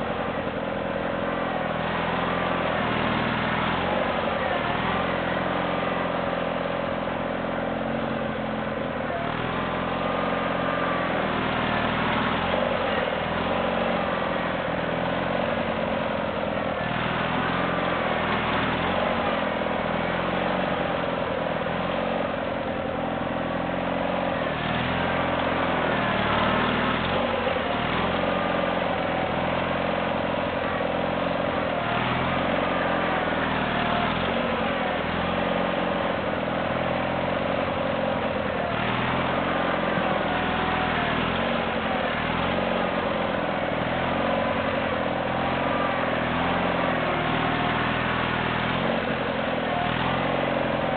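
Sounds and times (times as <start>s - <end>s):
garden tractor engine running: 0.0s - 50.9s.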